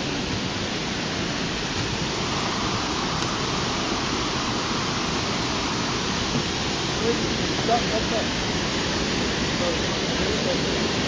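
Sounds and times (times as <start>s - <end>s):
water rushing over waterfall: 0.0s - 11.0s.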